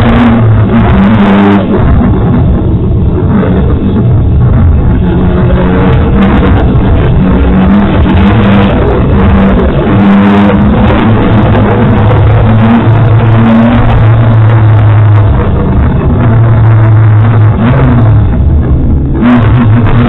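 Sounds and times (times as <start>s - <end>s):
rally car engine running hard: 0.0s - 20.0s
road and cabin noise: 0.0s - 20.0s.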